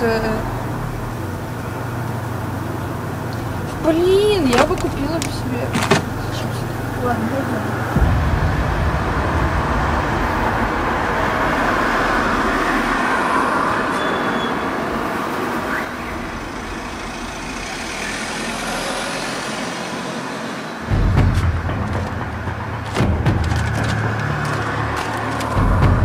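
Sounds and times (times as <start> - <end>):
rumble of passing vehicles: 0.0 - 26.0.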